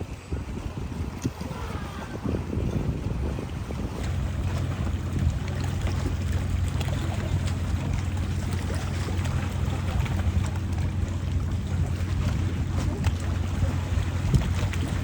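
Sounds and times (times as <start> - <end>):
wind noise on microphone: 0.0 - 15.0
engine humming: 1.1 - 15.0.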